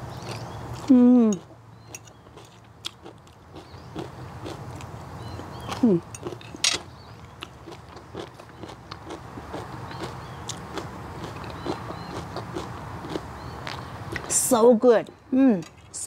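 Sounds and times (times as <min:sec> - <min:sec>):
person chewing crunchy food: 0:00.0 - 0:14.3.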